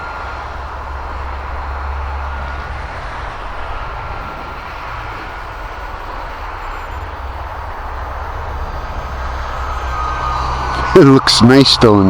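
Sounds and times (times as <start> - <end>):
model plane motor whine: 0.0 - 12.0.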